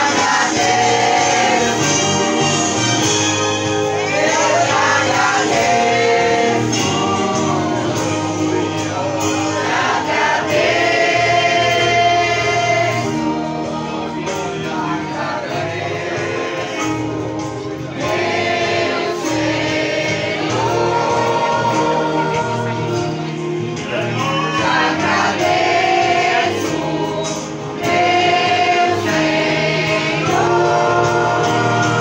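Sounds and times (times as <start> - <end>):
acoustic guitar: 0.0 - 32.0
choir singing a hymn: 0.0 - 32.0.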